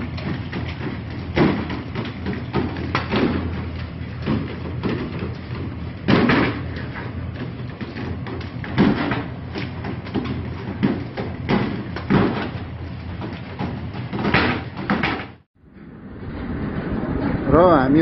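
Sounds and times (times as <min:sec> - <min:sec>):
heavy thuds and bangs: 0:00.0 - 0:15.4
steady low hum: 0:00.0 - 0:18.0.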